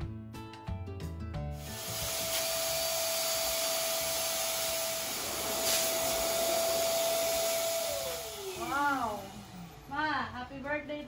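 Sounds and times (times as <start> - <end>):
electric balloon pump running: 1.6 - 10.7.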